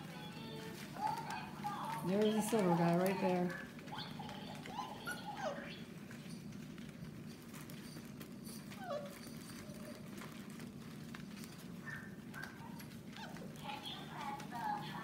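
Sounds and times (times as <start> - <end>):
puppies yelping: 0.0 - 15.0.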